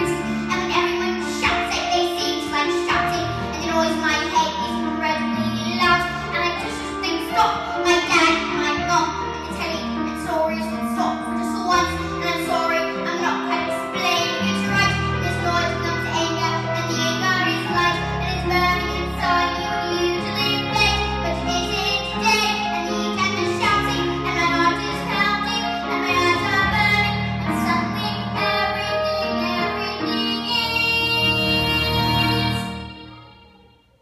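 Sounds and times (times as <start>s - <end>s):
girl singing: 0.0s - 34.0s
instrumental accompaniment: 0.0s - 34.0s.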